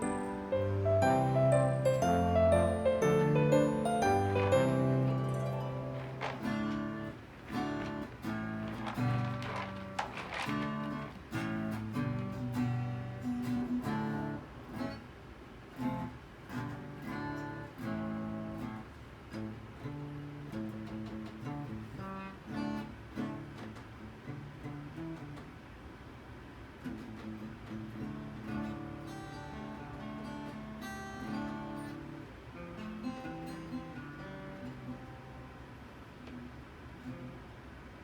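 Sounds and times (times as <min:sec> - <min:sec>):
acoustic guitar plucked and strummed: 0:00.0 - 0:15.1, 0:15.7 - 0:25.6, 0:26.8 - 0:37.6.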